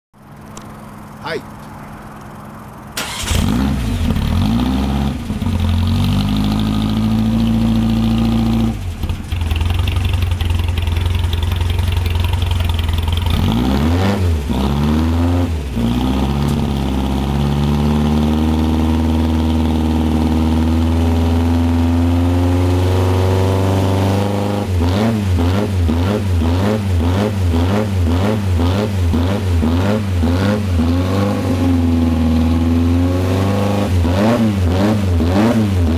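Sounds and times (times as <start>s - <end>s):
car engine idling and revving: 0.2s - 35.9s.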